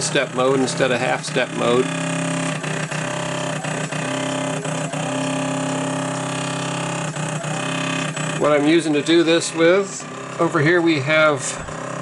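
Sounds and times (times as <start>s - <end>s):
stepper motors whining: 0.0s - 12.0s.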